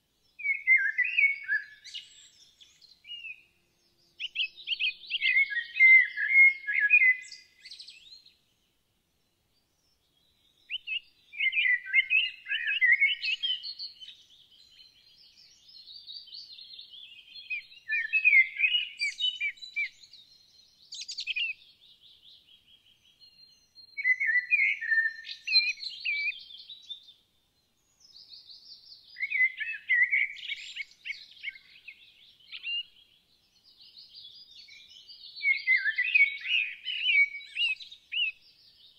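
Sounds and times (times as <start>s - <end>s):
songbird chirping and warbling: 0.2s - 38.9s.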